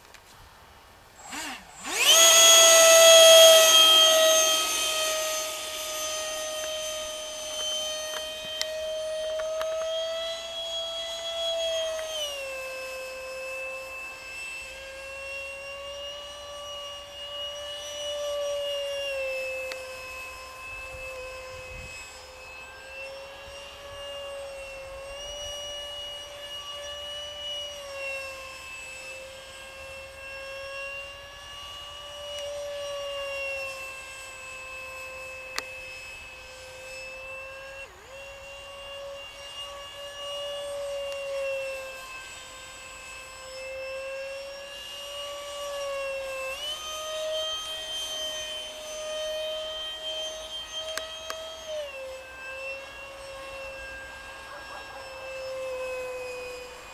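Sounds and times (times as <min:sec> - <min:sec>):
model jet fan whine: 0:00.0 - 0:56.9.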